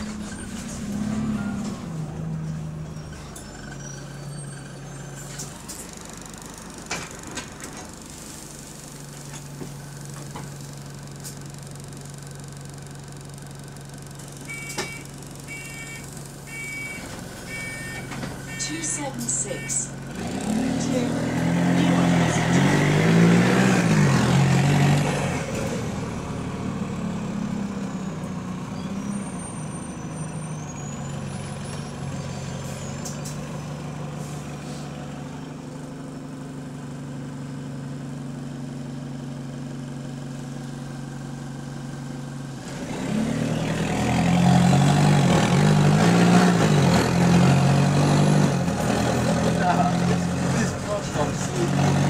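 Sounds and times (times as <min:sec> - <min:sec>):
bus diesel engine: 0:00.0 - 0:52.0.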